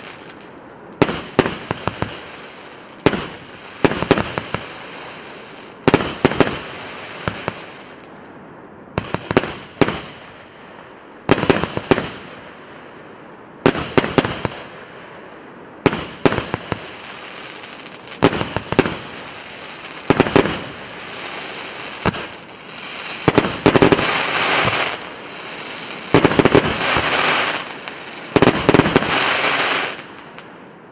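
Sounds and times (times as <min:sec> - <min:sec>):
fireworks bangs and crackling: 0:00.0 - 0:08.2, 0:09.0 - 0:10.4, 0:11.2 - 0:13.0, 0:13.6 - 0:30.5.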